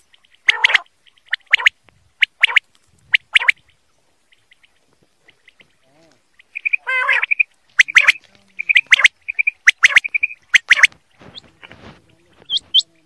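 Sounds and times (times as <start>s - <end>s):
quail calling: 0.0s - 13.0s.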